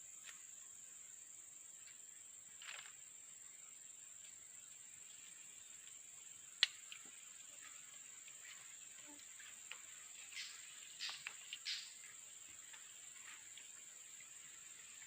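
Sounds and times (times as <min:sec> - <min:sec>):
high-pitched insect drone: 0:01.0 - 0:15.0.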